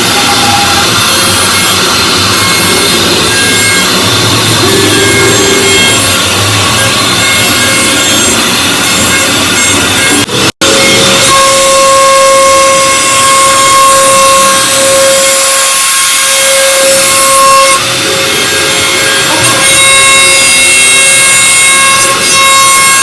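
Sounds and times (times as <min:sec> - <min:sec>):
steady whine: 0:00.0 - 0:19.7
cnc router cutting: 0:00.0 - 0:23.0.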